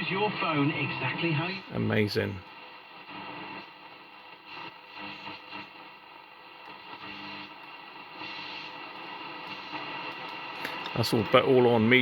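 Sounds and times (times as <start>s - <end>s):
radio hiss and static: 0.0s - 12.0s.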